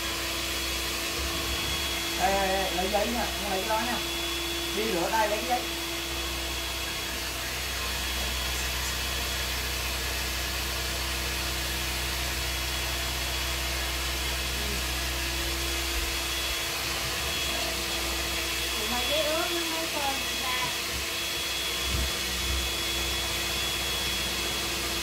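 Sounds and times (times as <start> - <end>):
small motor whirring: 0.0 - 25.0.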